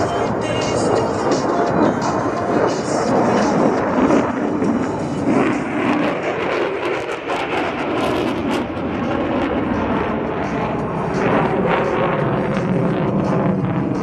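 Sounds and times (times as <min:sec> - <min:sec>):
fighter jet engine roar with crackle: 0:00.0 - 0:14.0.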